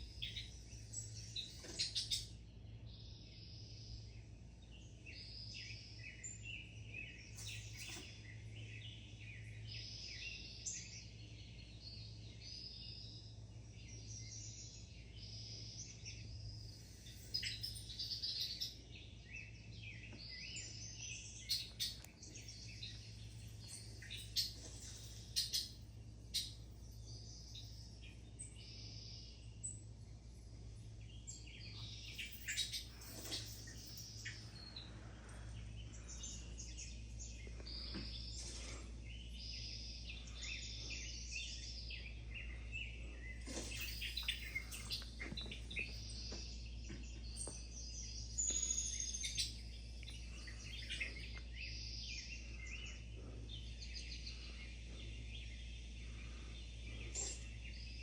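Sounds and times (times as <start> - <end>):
small songbirds chirping: 0.0 - 58.0
steady low hum: 0.0 - 58.0.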